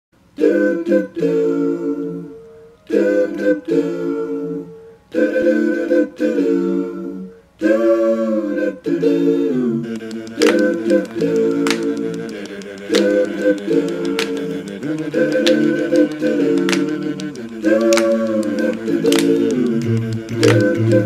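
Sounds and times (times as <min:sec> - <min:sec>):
a cappella singing: 0:00.3 - 0:21.0.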